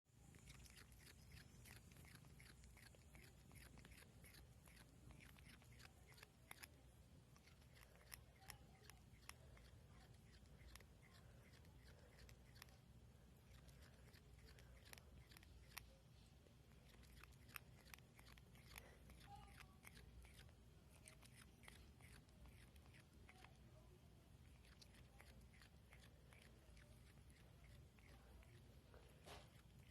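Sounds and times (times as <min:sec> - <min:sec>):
cat grinding its teeth: 0:00.2 - 0:16.0, 0:16.7 - 0:23.6, 0:24.4 - 0:29.9.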